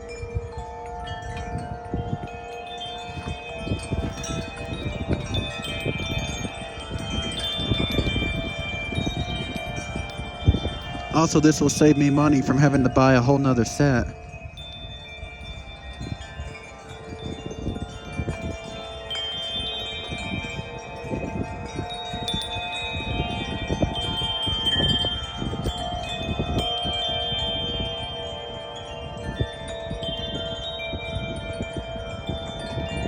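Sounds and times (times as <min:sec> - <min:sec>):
metal wind chime ringing: 0:00.0 - 0:33.0
wind rumble on microphone: 0:00.0 - 0:33.0.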